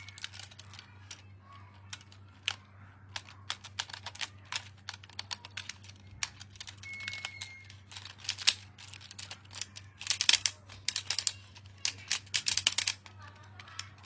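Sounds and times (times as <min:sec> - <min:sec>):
clicks of handling toy packaging: 0:00.0 - 0:14.0.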